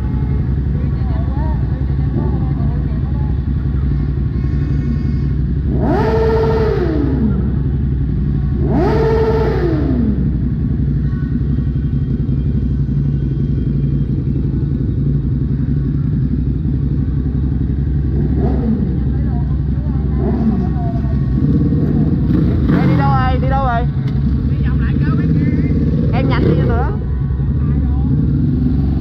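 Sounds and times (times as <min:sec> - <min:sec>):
motorbike traffic hum: 0:00.0 - 0:29.0
motorcycle engine revving: 0:00.0 - 0:29.0.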